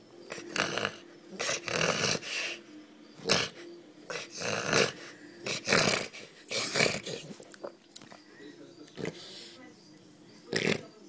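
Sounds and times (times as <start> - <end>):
dog breathing noisily: 0.0 - 10.9.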